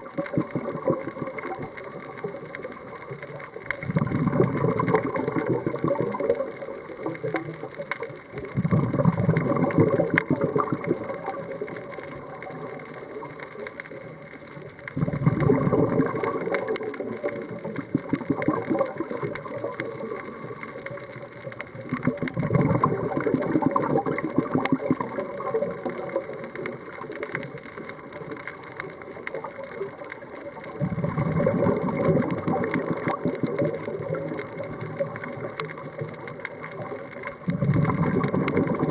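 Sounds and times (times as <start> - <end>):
scuba regulator exhalation bubbles: 0.0 - 13.4, 14.9 - 38.9
underwater crackle of clicks: 0.0 - 38.9.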